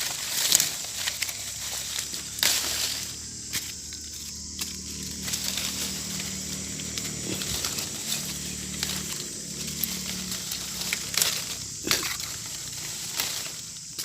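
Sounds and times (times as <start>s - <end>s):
leaves and branches rustling: 0.0s - 14.0s.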